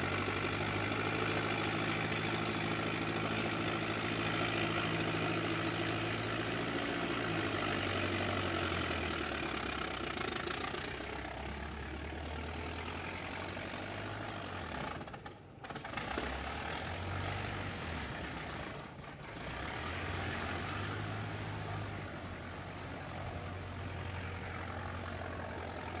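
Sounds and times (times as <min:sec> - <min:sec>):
old car engine running: 0:00.0 - 0:26.0.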